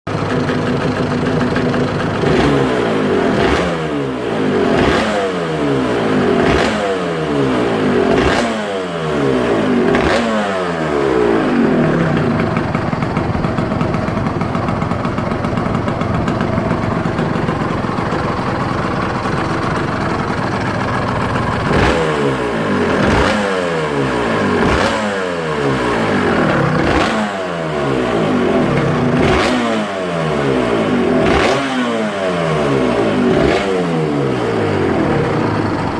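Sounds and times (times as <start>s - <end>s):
two-stroke engine revving: 0.1s - 35.9s.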